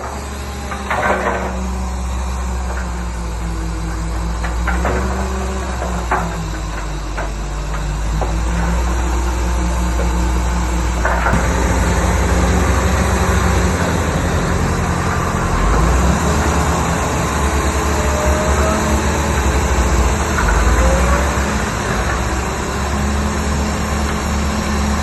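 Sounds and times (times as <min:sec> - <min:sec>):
diesel earthmoving machinery running: 0:00.0 - 0:25.0.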